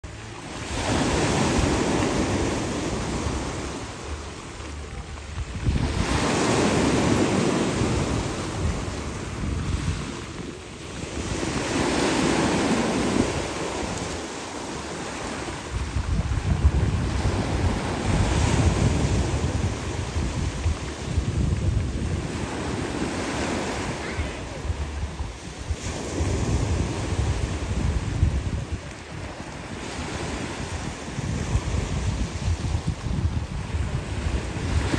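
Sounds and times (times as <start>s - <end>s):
wind rumbling on microphone: 0.0s - 34.9s
surf breaking on pebble beach: 0.5s - 34.9s.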